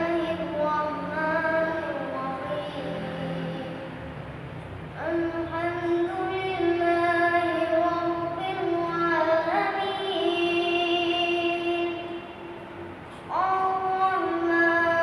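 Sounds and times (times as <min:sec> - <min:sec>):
boy chanting liturgy: 0:00.0 - 0:04.1, 0:05.0 - 0:12.4, 0:13.3 - 0:15.0.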